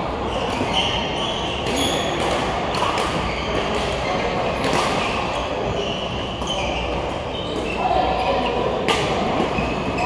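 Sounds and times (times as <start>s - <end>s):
distant voices in a hall: 0.0s - 10.0s
shoes squeaking on floor: 0.2s - 10.0s.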